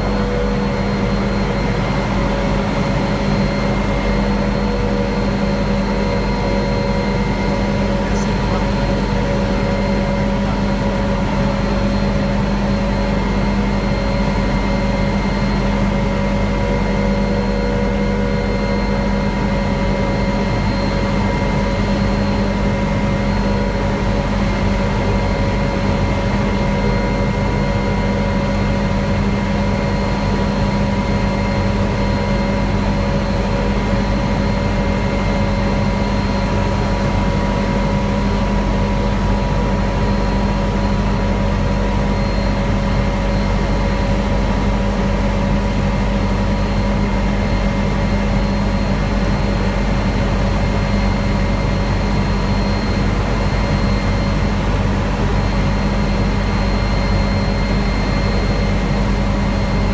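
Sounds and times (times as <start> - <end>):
helicopter engine and rotor: 0.0 - 59.9
high whine: 0.0 - 59.9.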